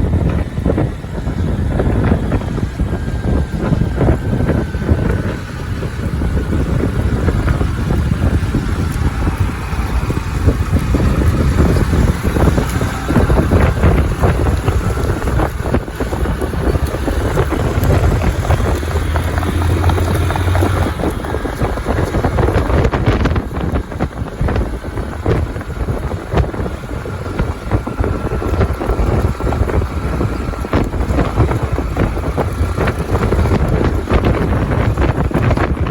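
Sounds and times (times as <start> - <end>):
low steady rumble: 0.0 - 35.9
wind buffeting microphone: 0.0 - 35.9
irregular crackles: 3.0 - 35.9.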